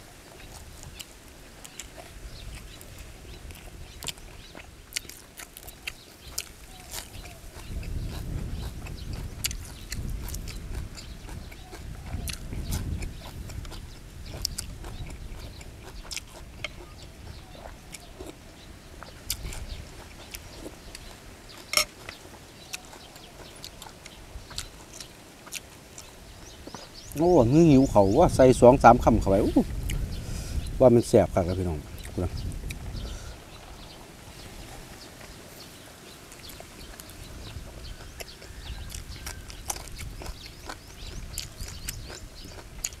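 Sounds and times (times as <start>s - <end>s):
man chewing food: 0.0s - 27.2s, 29.7s - 30.8s, 31.9s - 43.0s.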